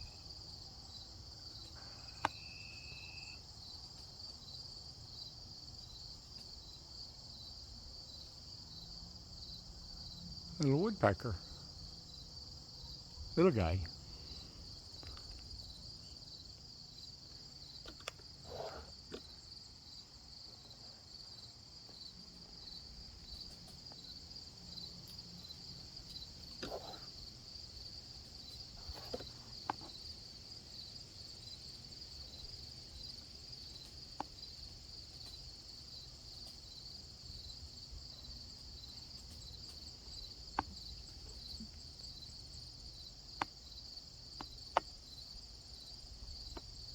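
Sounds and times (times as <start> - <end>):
crickets chirring: 0.0 - 46.9.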